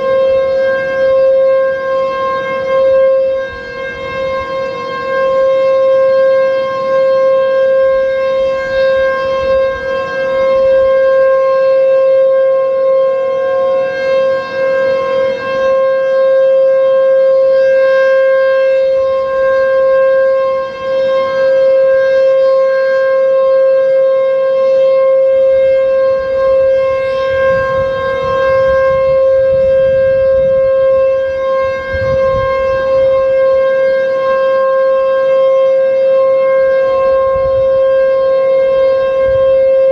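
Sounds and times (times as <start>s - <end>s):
distant warning sirens: 0.0s - 39.9s
warning siren held pitch: 0.0s - 39.9s.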